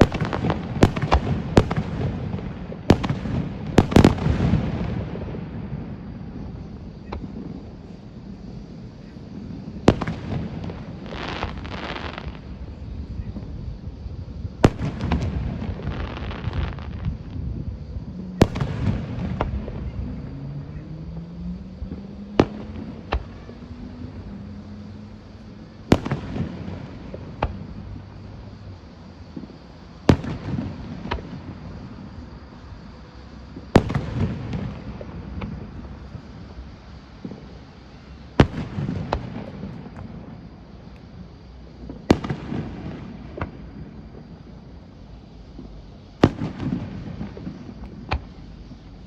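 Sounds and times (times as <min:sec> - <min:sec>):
firework crackling: 0:00.0 - 0:20.5, 0:21.6 - 0:49.0.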